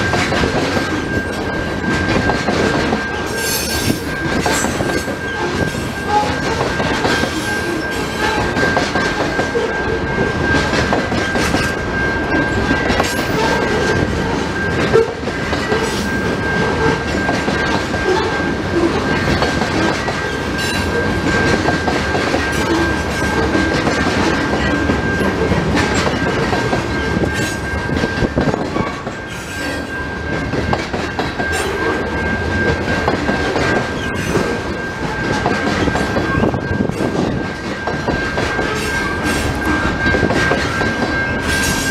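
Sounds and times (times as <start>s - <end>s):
freight train rolling past: 0.0s - 41.9s.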